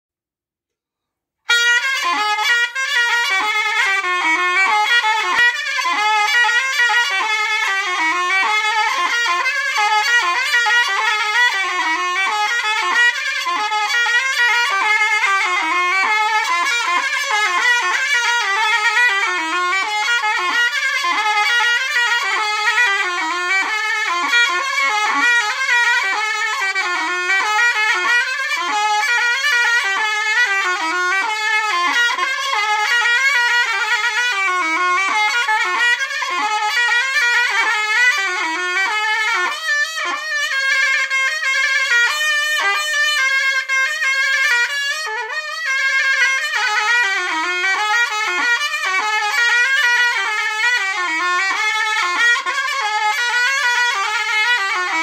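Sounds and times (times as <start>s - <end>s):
shawm playing folk melody: 1.5s - 55.0s.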